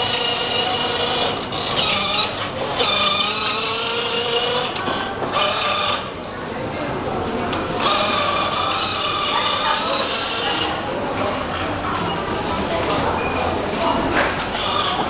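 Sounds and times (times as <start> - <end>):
steady mechanical whir: 0.0 - 13.0.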